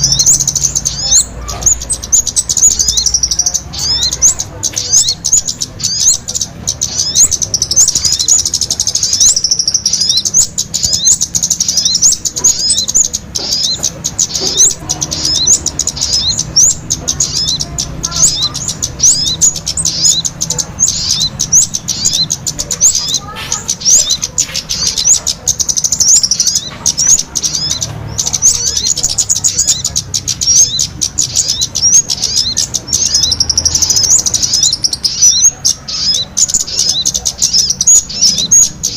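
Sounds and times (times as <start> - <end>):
small birds chirping rapidly: 0.0 - 38.9.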